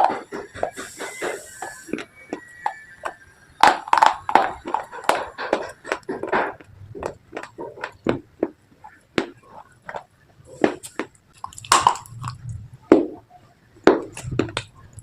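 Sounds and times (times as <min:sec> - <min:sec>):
slate crunching when chewed: 0:00.0 - 0:12.6.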